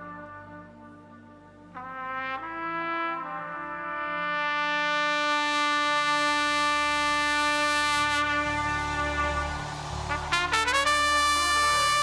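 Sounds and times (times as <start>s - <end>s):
low sustained backing: 0.0s - 12.0s
solo trumpet: 0.0s - 12.0s.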